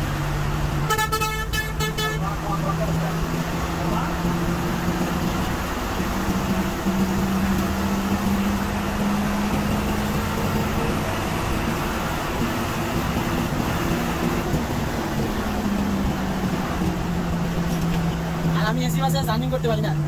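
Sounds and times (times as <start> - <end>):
bus engine drone: 0.0 - 20.0
road and tyre noise: 0.0 - 20.0.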